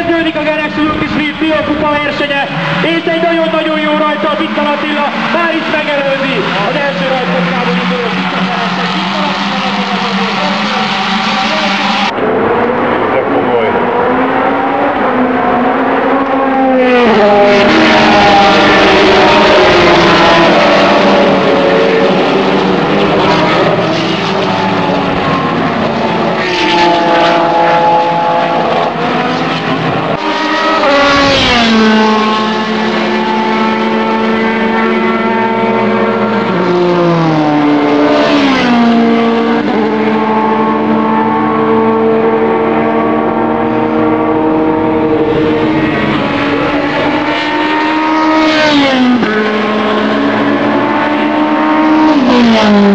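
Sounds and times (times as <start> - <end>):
racing car engines revving: 0.0 - 52.9.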